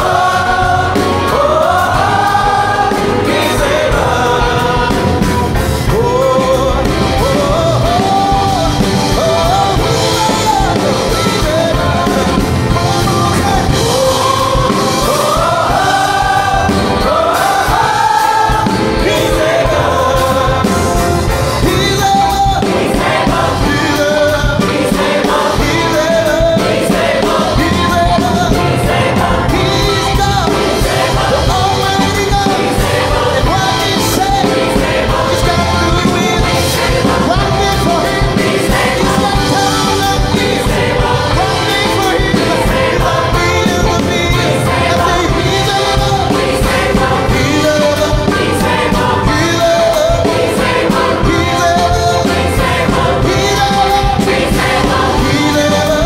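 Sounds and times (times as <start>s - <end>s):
band playing steady beat: 0.0s - 56.0s
gospel choir singing: 0.0s - 56.0s
man singing lead: 0.0s - 56.0s.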